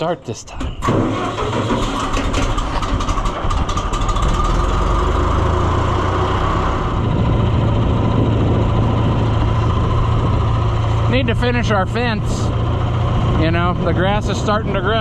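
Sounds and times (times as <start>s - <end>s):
engine idling: 0.8s - 5.5s, 6.8s - 15.0s.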